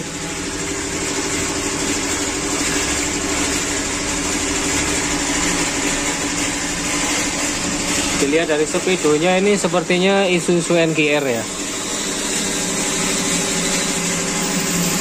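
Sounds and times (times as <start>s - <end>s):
mechanical drone with hiss: 0.0s - 15.0s.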